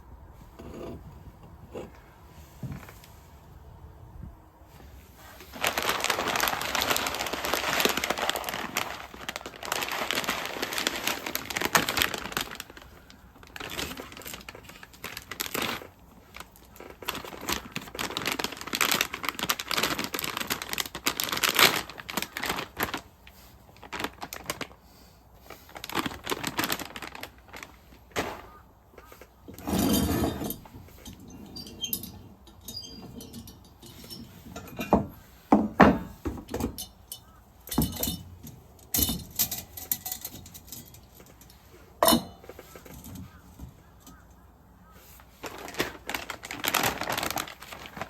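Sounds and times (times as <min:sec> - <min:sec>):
crinkling and rustling: 0:00.4 - 0:03.6, 0:04.6 - 0:48.0.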